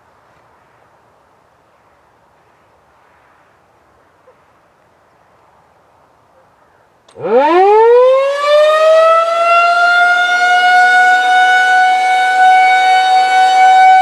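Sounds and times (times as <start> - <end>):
faint outdoor background noise: 0.0 - 14.0.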